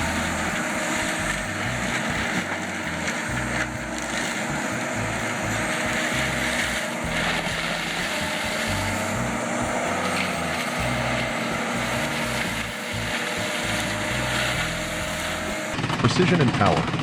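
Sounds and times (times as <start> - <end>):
music bass line: 0.0 - 16.4
constant hum: 0.0 - 17.0
heavy machine engine running: 0.0 - 17.0.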